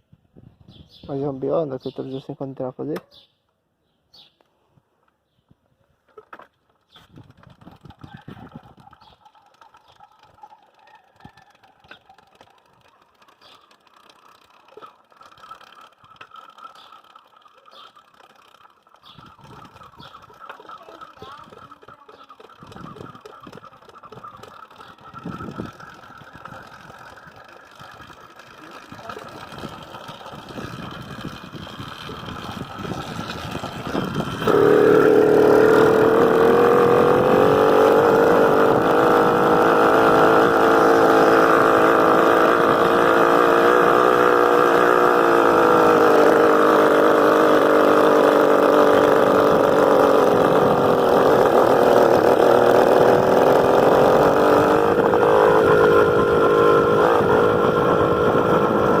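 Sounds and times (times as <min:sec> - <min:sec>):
motorcycle engine running: 0:06.8 - 0:59.0.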